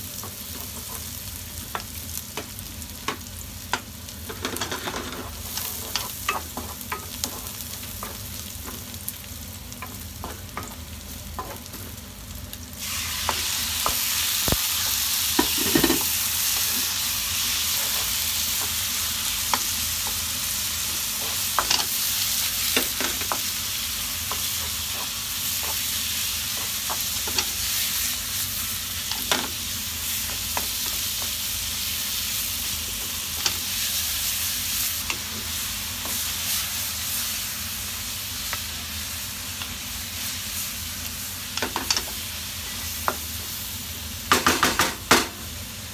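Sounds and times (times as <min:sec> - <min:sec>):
loud steady sizzle: 0:00.0 - 0:45.9
onions frying in a pan: 0:00.0 - 0:45.9.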